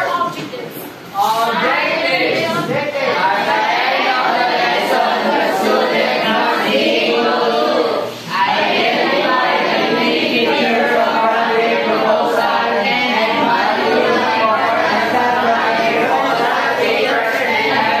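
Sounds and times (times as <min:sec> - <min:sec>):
group of people singing: 0:01.3 - 0:18.0.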